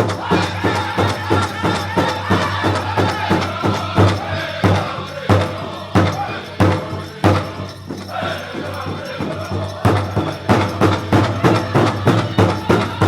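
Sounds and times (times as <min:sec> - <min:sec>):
big drum beating: 0:00.0 - 0:13.0
group singing: 0:00.0 - 0:13.0.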